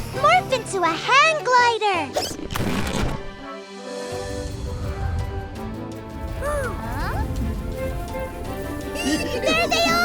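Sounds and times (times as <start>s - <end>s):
held notes background music: 0.0s - 2.4s, 3.0s - 10.0s.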